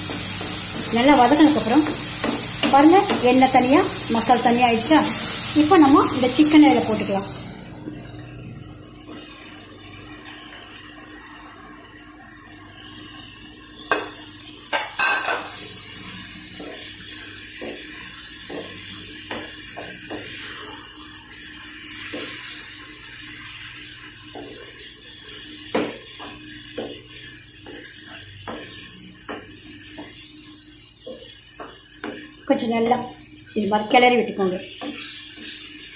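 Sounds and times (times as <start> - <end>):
chicken sizzling in hot oil: 0.0 - 35.9.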